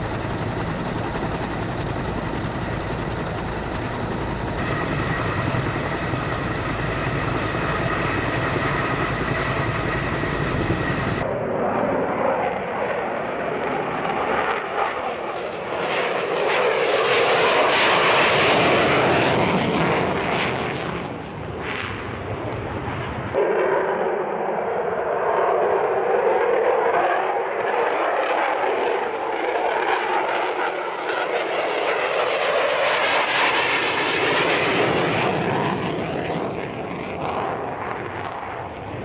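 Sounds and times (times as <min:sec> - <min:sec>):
jet engine whine: 0:00.0 - 0:39.0.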